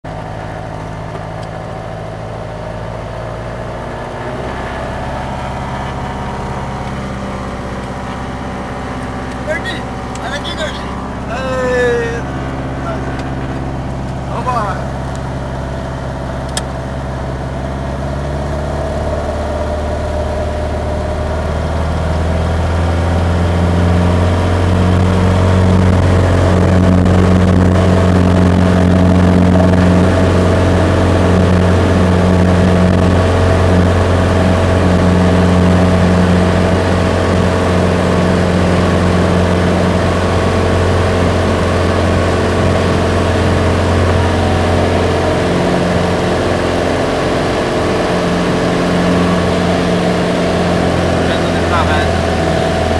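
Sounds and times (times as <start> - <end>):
propeller plane engine: 0.0 - 52.9.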